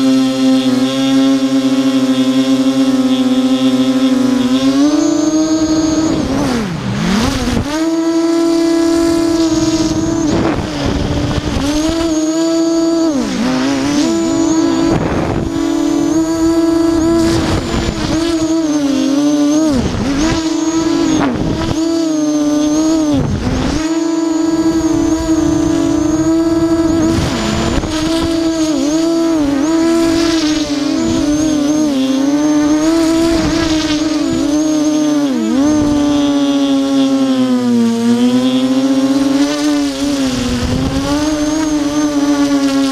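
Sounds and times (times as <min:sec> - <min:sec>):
quadcopter propellers whining: 0:00.0 - 0:42.9.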